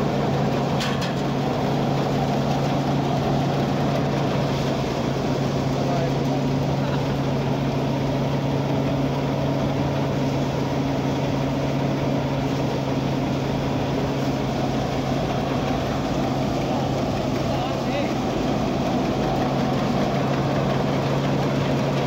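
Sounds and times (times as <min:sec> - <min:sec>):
thresher engine humming: 0:00.0 - 0:22.0.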